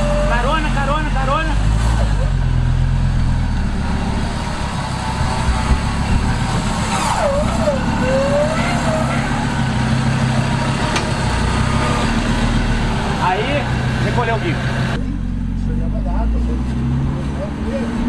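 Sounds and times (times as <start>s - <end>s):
diesel engine running: 0.0s - 17.8s.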